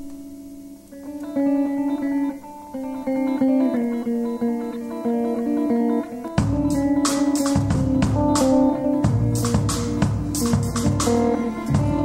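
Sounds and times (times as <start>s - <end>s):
electric guitars playing: 0.0s - 12.0s.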